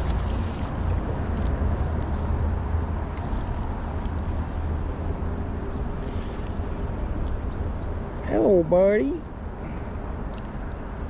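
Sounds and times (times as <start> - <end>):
creek water running: 0.0 - 11.0
wind rumbling on microphone: 0.0 - 11.0.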